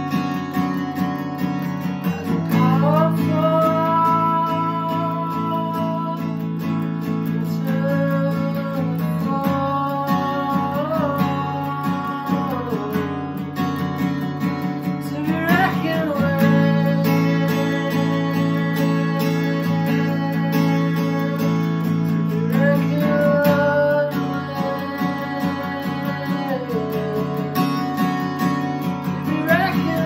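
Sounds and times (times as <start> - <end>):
acoustic guitar strumming: 0.0 - 30.0
man singing: 0.0 - 30.0.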